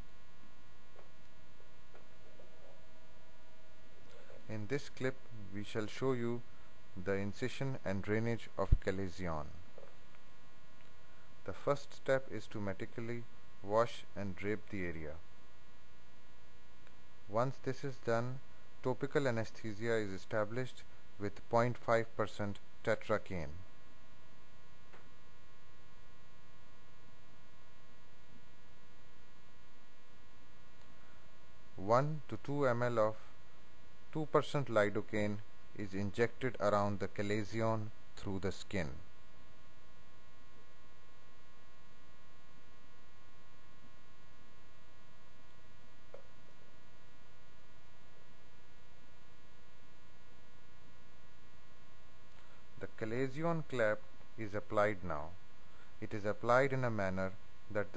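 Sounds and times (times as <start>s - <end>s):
electrical mains hum: 0.0s - 57.9s.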